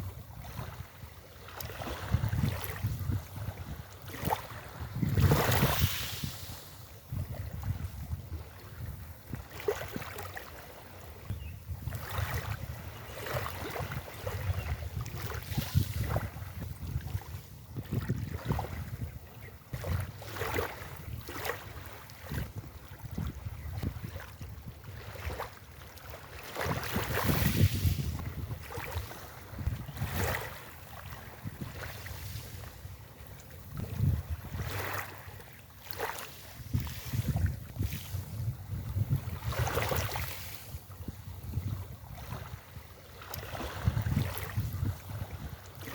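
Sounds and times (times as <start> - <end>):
waves washing onto beach: 0.0 - 11.2, 12.0 - 45.9
wind rumble on microphone: 0.0 - 45.9.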